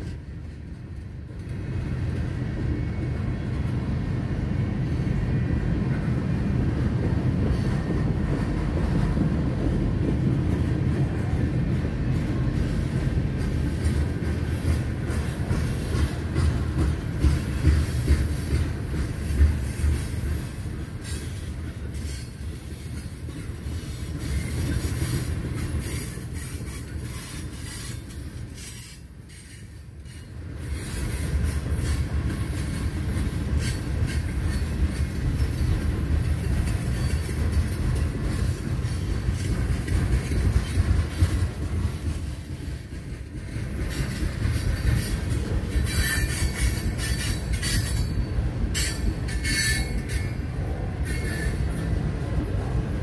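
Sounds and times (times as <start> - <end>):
freight train cars rolling past: 0.0 - 53.0
steel wheels clicking over rails: 7.4 - 52.6.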